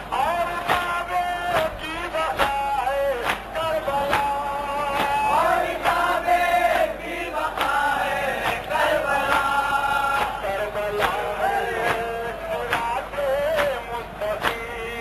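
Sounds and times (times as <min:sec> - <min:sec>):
men chanting: 0:00.0 - 0:15.0
sharp slaps or claps: 0:00.1 - 0:15.0.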